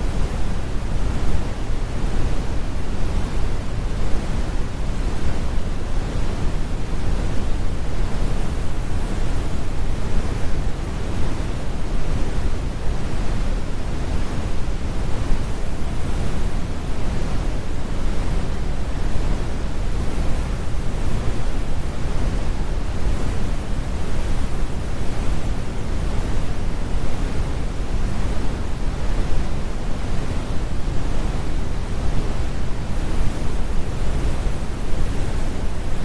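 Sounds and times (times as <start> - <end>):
deep brown noise: 0.0 - 36.0.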